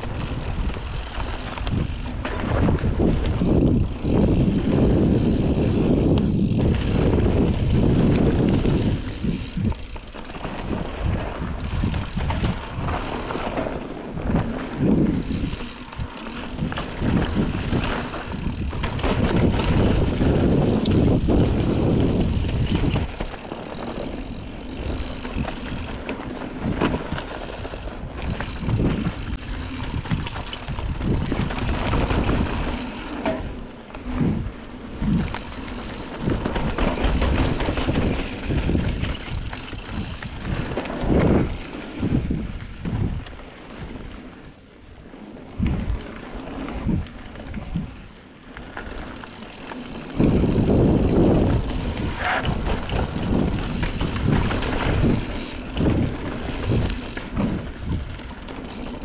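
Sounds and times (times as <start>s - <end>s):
wind rushing over microphone: 0.0s - 48.2s, 48.9s - 59.0s
bike rattling: 0.0s - 59.0s
tyres rolling on dirt: 0.0s - 59.0s.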